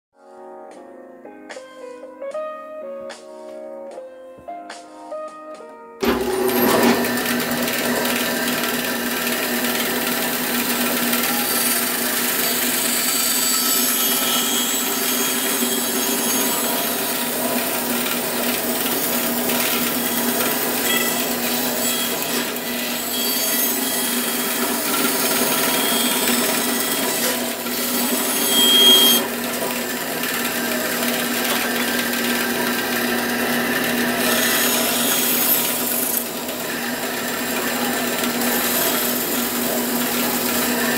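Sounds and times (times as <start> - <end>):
bandsaw sawing: 6.0 - 40.9.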